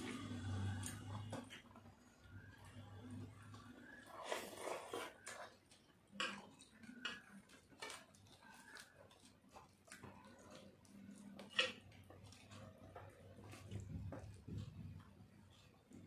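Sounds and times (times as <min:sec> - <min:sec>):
fingers mixing rice on plates: 0:00.0 - 0:16.0
people chewing: 0:00.0 - 0:16.0.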